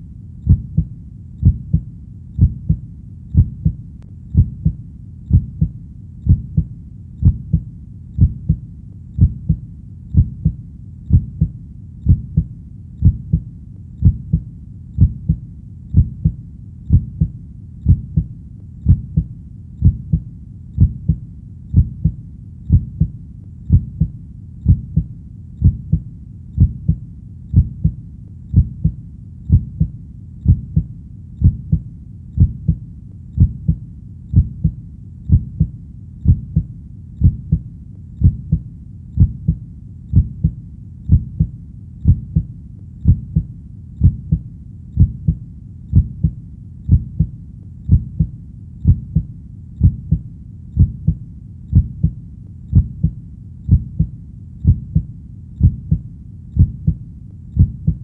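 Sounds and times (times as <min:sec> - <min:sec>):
faint low background noise: 0:00.0 - 0:58.0
heartbeat: 0:00.0 - 0:58.0.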